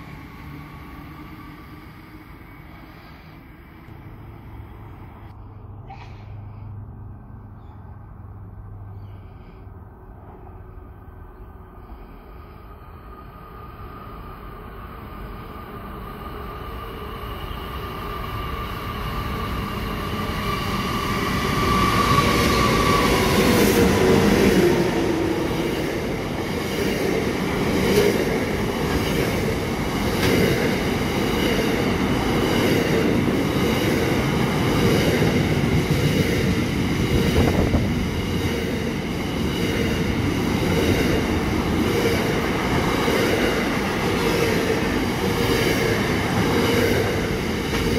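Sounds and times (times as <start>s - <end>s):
diesel locomotive engine: 0.0s - 47.9s.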